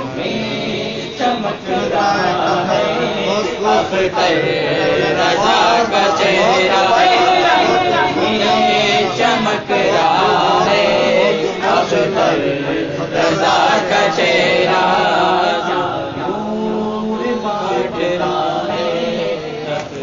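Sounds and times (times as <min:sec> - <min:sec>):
man singing devotional chant: 0:00.0 - 0:20.0.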